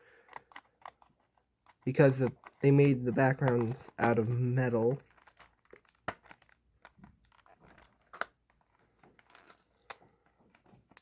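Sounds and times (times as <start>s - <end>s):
plastic and cardboard crinkling: 0.0s - 11.0s.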